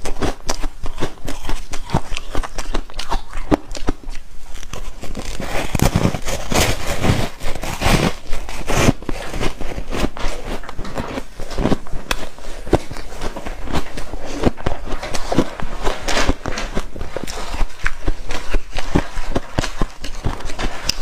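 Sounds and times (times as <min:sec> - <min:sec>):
chewing crunchy ice: 0:00.0 - 0:21.0.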